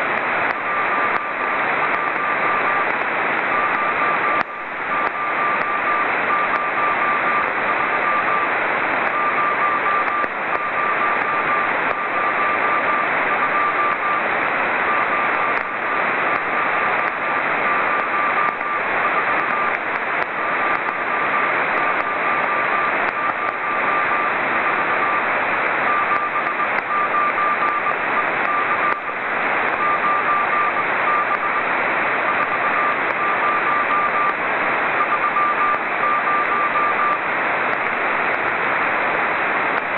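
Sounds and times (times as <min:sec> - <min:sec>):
receiver hiss: 0:00.0 - 0:39.9
morse code beacon tone: 0:00.5 - 0:08.5, 0:09.1 - 0:34.4, 0:35.0 - 0:37.3.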